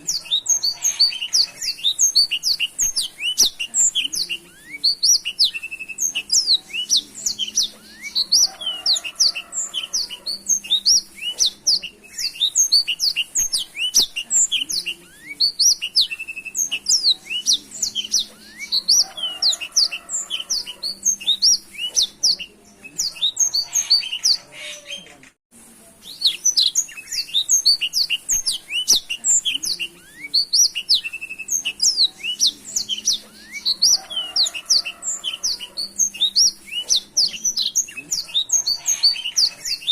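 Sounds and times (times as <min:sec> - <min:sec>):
canary singing: 0:00.0 - 0:25.3, 0:26.0 - 0:39.9.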